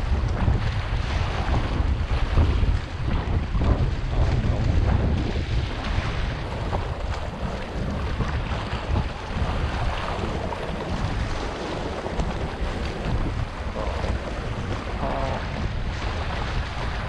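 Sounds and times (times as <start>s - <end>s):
sea waves splashing against rocks: 0.0s - 17.0s
wind buffeting microphone: 0.0s - 17.0s.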